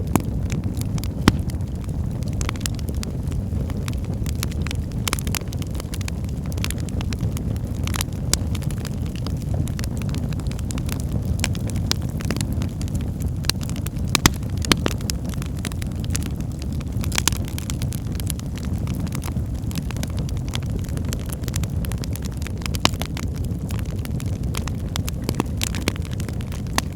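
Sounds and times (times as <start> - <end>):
fire crackling and popping: 0.0 - 26.9
fire rumbling: 0.0 - 26.9.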